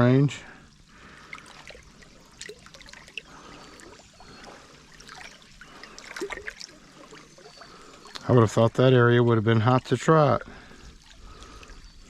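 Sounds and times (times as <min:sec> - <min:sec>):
faint trickling water: 0:00.0 - 0:12.0.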